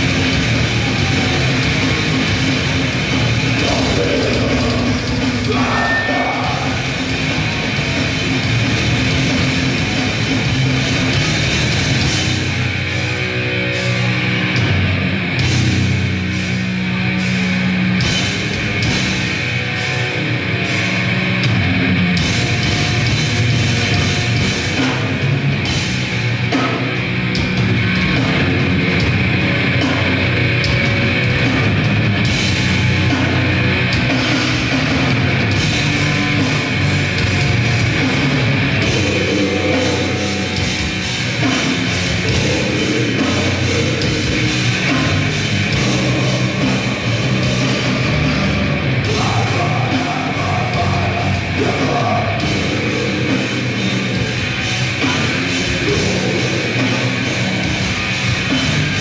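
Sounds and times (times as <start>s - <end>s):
distorted guitar and bass: 0.0s - 59.0s
hard-hit drums: 0.0s - 59.0s.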